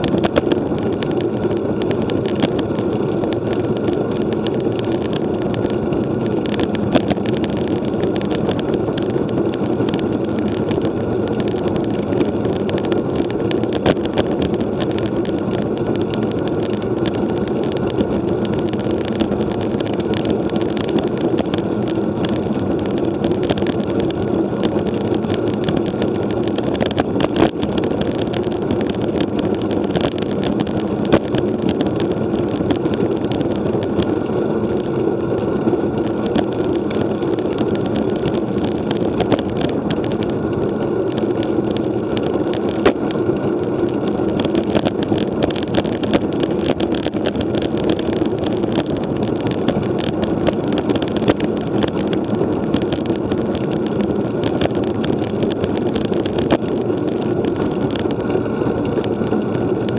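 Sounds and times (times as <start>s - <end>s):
bicycle road noise: 0.0s - 59.9s
small clicks and rattles: 0.0s - 59.9s
wind rush: 0.0s - 59.9s.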